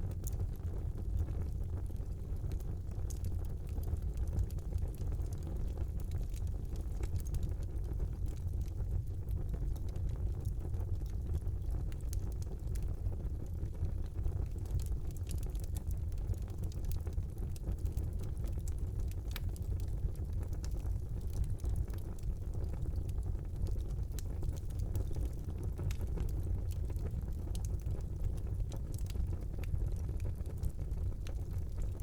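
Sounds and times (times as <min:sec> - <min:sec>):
fire crackles and pops: 0:00.0 - 0:32.0
low rumble of flames: 0:00.0 - 0:32.0.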